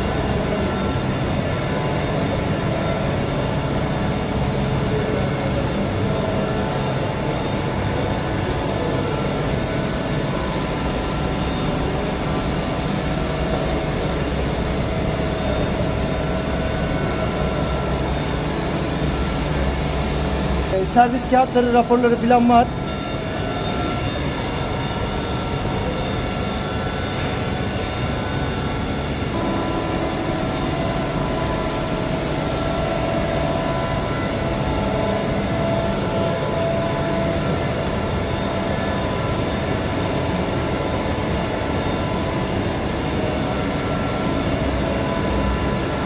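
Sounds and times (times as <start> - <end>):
machine hum: 0.0 - 46.0
steady whining tones: 0.0 - 46.0.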